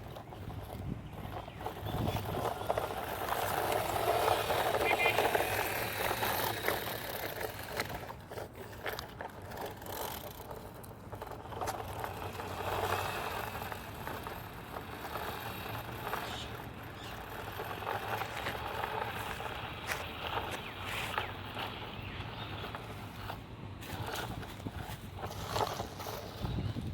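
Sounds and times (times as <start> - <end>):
toy car electric motor: 0.0 - 26.9
wheels rattling and scraping: 0.0 - 26.9.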